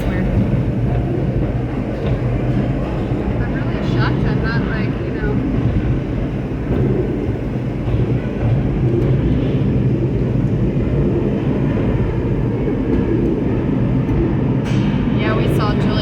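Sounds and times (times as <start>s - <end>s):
tram capsule rumbling and rattling: 0.0s - 16.0s.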